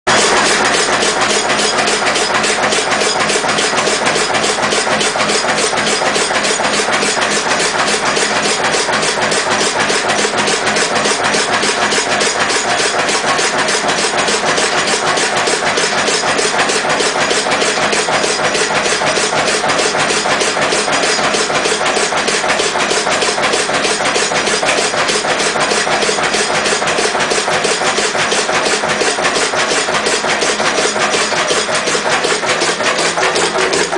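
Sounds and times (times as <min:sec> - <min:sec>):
diesel engine knocking steadily: 0:00.1 - 0:33.9.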